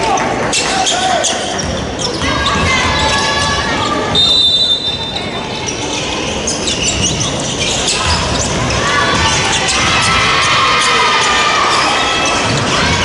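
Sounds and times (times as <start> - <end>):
voices calling out in a hall: 0.0 - 13.0.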